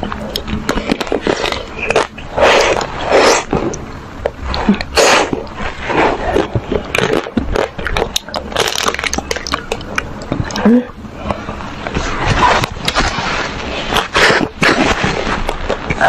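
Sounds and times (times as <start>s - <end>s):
mouth clicks: 0.0s - 13.1s
wet slurping and sucking: 0.2s - 16.0s.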